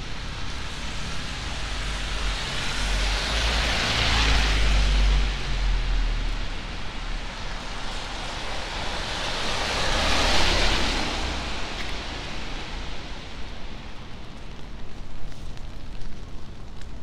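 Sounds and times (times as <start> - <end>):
tyre hiss on wet street: 0.0 - 17.0.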